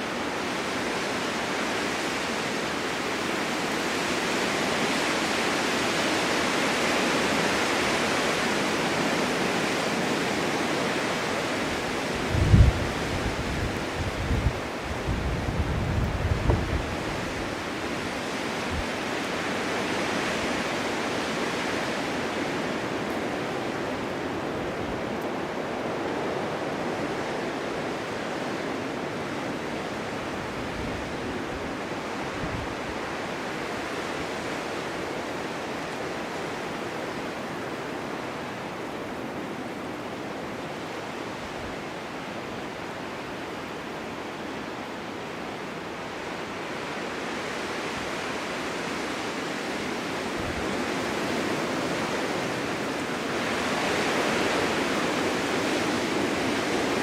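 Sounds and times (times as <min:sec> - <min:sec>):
snowstorm wind blowing: 0:00.0 - 0:57.0.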